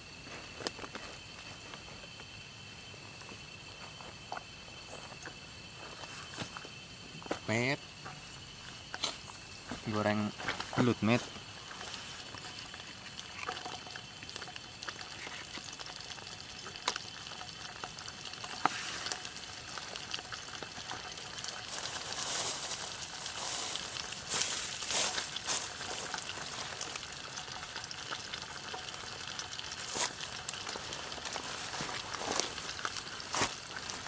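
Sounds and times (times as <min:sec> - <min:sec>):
fish frying in hot oil: 0:00.0 - 0:34.0.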